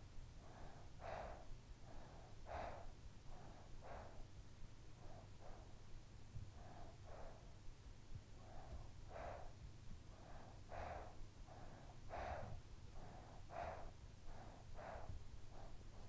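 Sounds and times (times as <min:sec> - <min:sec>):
sleeping child breathing: 0:00.0 - 0:16.0.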